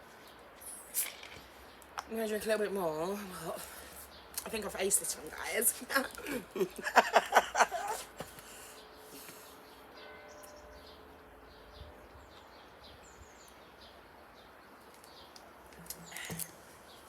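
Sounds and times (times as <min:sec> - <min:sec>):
small birds chirping: 0:00.0 - 0:07.0, 0:07.6 - 0:17.0.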